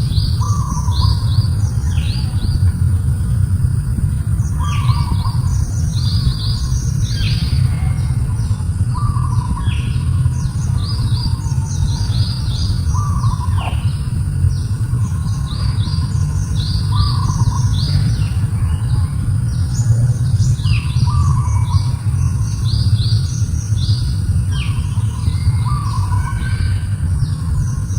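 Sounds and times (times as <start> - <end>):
small birds chirping: 0.0 - 27.9
steady low rumble: 0.0 - 27.9.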